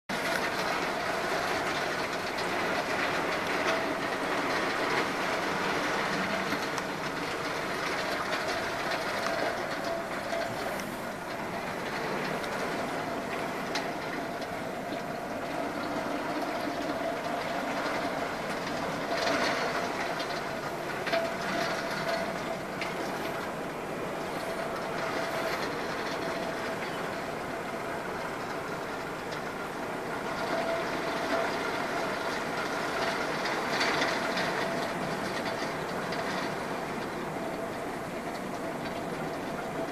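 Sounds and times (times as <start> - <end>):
heavy rain through window: 0.1 - 39.9.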